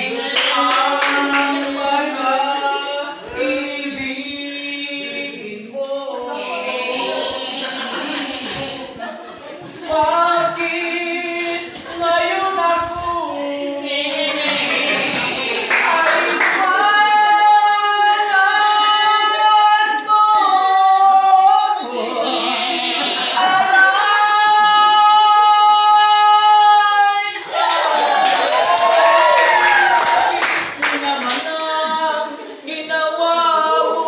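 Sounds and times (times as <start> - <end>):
person singing into a microphone: 0.0 - 9.0, 9.7 - 27.5, 30.9 - 34.0.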